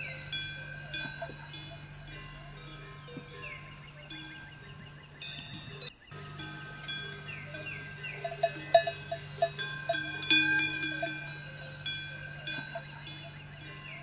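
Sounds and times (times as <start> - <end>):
metal bells clinking: 0.0 - 14.0
steady low hum: 0.0 - 14.0.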